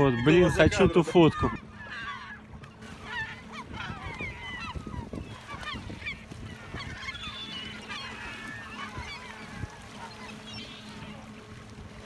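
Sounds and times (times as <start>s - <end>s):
gulls calling: 0.0s - 12.0s
low steady hum: 0.0s - 12.0s.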